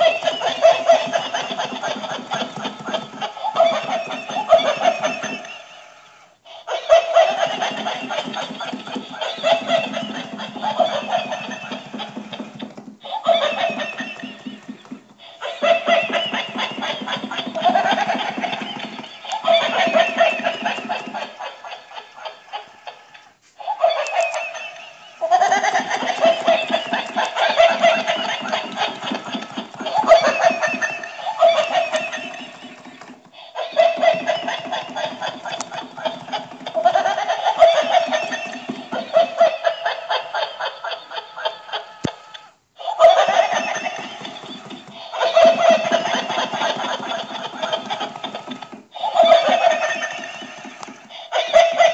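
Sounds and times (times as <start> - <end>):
person laughing: 0.0 - 5.8, 6.7 - 51.9.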